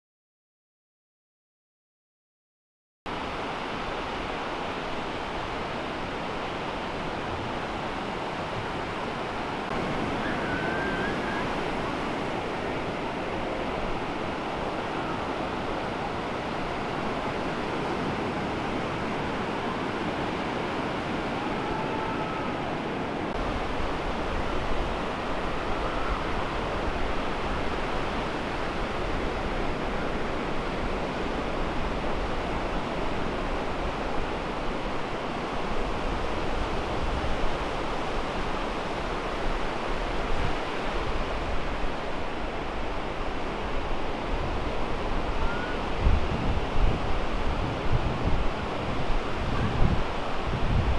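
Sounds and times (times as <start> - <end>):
ocean surf washing onto beach: 3.1 - 50.9.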